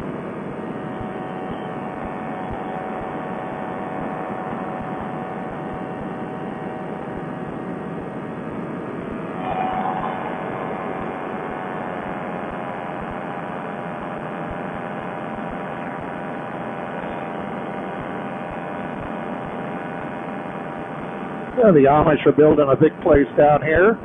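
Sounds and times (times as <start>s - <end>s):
two-stroke engine drone: 0.0s - 24.0s.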